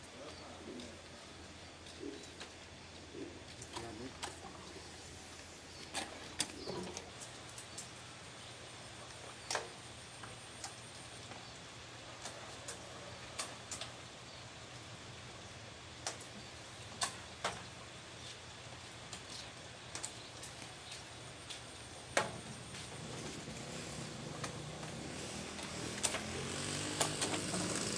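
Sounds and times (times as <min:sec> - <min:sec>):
faint steady hiss: 0:00.0 - 0:27.9.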